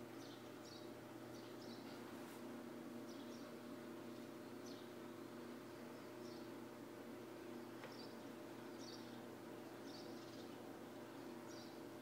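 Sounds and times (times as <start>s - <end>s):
faint high-pitched bird chirps: 0.0s - 2.0s, 3.0s - 6.6s, 7.6s - 11.8s
steady low hum: 0.0s - 12.0s.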